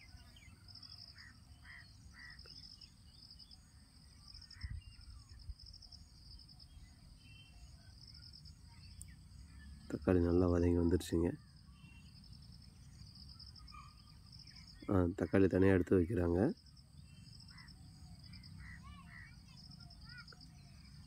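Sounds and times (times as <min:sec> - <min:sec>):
faint crickets trilling: 0:00.0 - 0:21.0.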